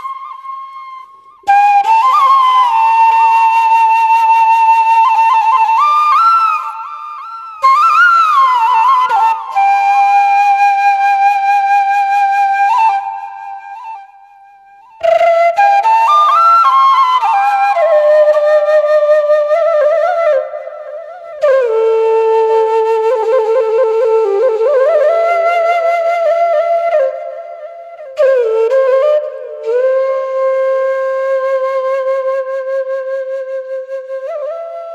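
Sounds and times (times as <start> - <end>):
solo flute melody: 0.0 - 34.9.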